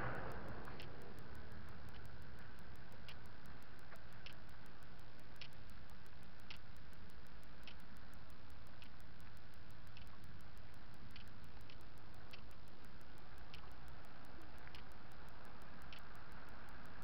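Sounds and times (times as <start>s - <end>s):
light ticking: 0.0s - 17.0s.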